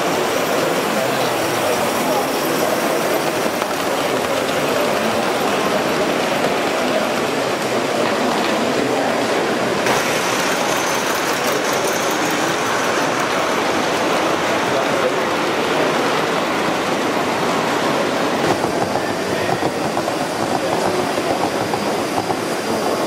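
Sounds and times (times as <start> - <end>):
hall hubbub: 0.0 - 23.0
model train wheels clattering: 1.3 - 8.8, 9.8 - 16.9, 18.4 - 23.0.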